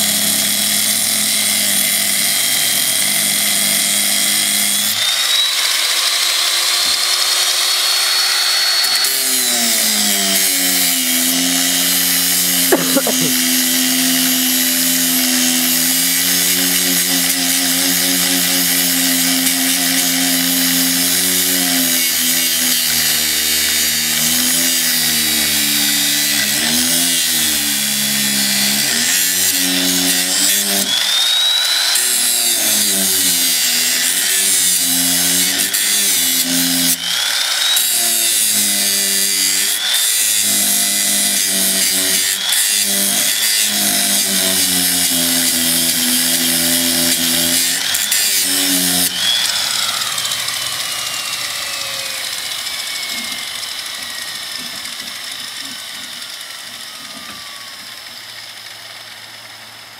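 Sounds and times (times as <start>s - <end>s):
angle grinder grinding metal: 0.0s - 59.9s
grinder winding down whine: 2.6s - 26.6s, 27.2s - 59.9s.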